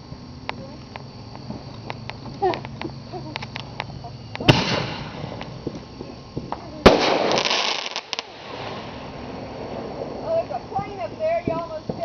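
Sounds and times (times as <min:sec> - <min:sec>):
fireworks crackling: 0:00.0 - 0:12.0
fireworks bangs: 0:00.5 - 0:12.0.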